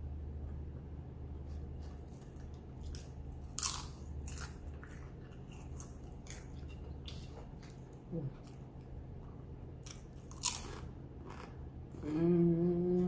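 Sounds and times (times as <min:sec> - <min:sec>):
steady low hum: 0:00.0 - 0:13.0
person chewing crunchy food: 0:01.4 - 0:12.2.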